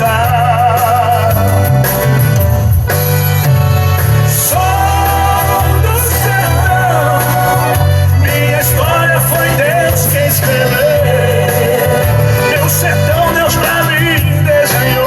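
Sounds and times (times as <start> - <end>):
praise song music: 0.0 - 15.0
sliding melody line: 0.0 - 15.0.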